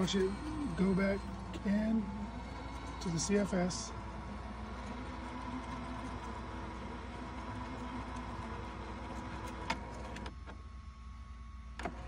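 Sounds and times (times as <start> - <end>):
printer whirring: 0.0 - 10.8, 11.7 - 12.0.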